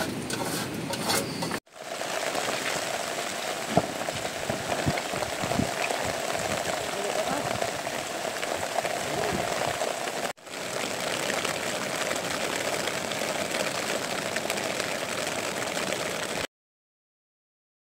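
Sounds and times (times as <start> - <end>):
steady rain falling: 1.7 - 16.5.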